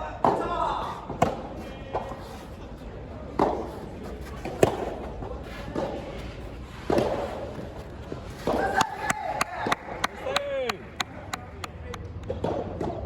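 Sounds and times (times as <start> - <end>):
rackets striking tennis ball: 0.2 - 2.2, 3.3 - 13.0.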